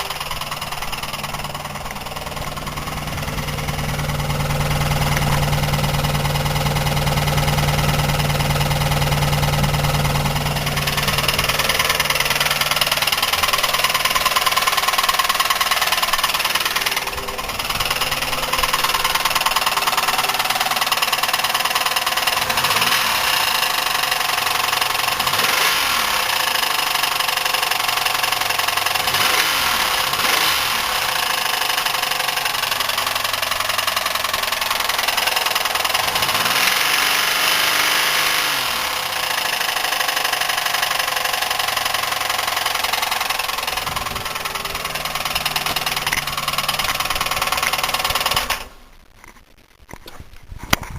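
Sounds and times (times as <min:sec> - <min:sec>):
car engine knocking: 0:00.0 - 0:48.7.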